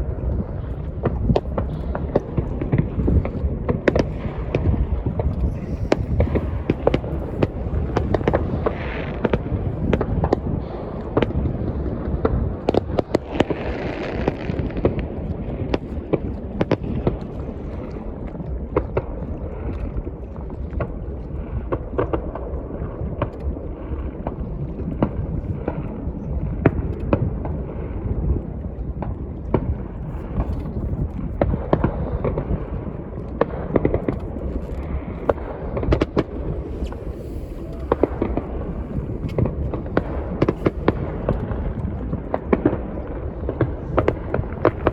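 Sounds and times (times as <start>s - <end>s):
fireworks bangs and crackles: 0.0s - 17.8s, 20.7s - 44.9s
low rumble: 0.0s - 21.9s, 22.5s - 44.9s.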